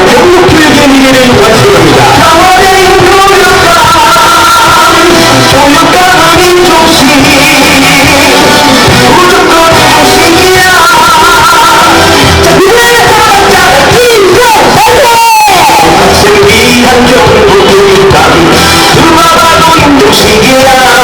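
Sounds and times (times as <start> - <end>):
campaign song with singing: 0.0 - 21.0.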